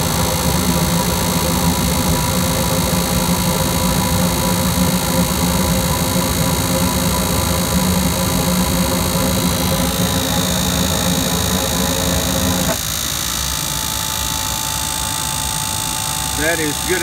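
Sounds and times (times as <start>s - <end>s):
air conditioning unit droning: 0.0s - 17.0s.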